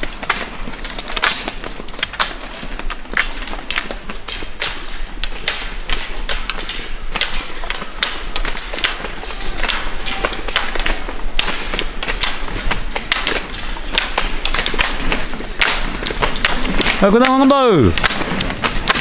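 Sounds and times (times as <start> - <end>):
ski pole tips clicking on asphalt: 0.0 - 19.0.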